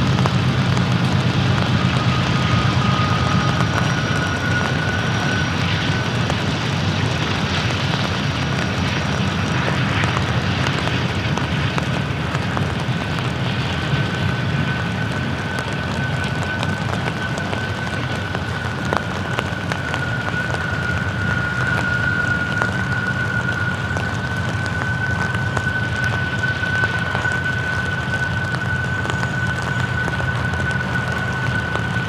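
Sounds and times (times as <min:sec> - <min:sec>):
diesel locomotive engine rumble: 0:00.0 - 0:32.0
high whine: 0:00.0 - 0:32.0.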